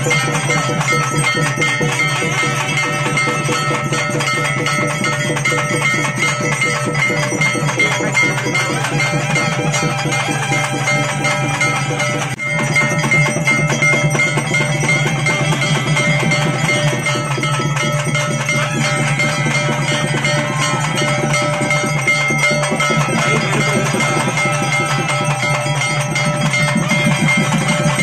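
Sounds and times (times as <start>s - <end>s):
temple bells ringing rapidly: 0.0s - 28.0s.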